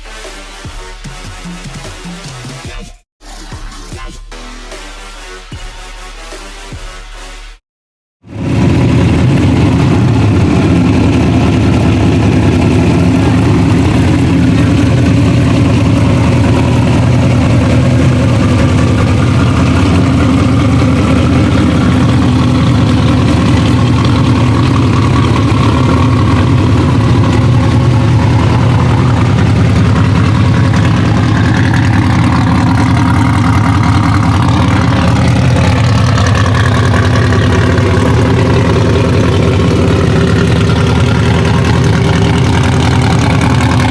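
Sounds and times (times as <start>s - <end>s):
race car engine idling: 8.3s - 43.9s.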